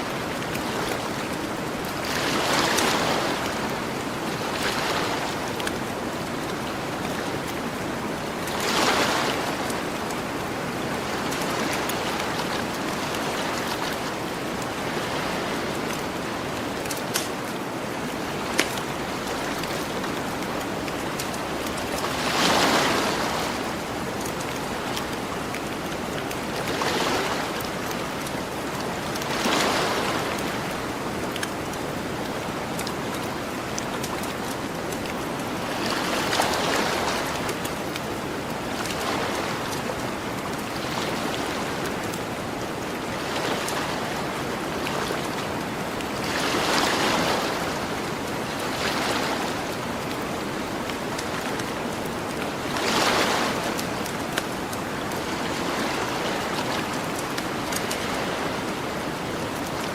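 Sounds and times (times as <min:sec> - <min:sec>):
ocean surf on beach: 0:00.0 - 0:59.9.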